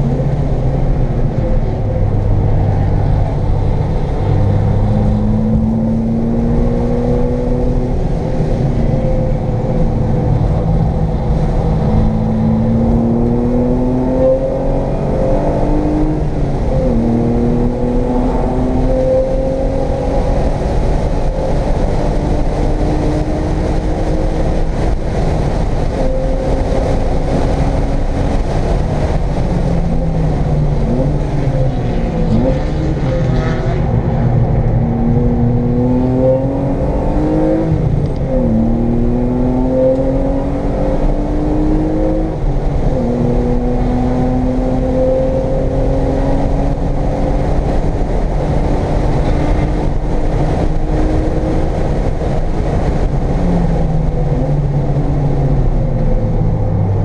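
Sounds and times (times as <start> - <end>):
car engine revving through gears: 0.0 - 57.0.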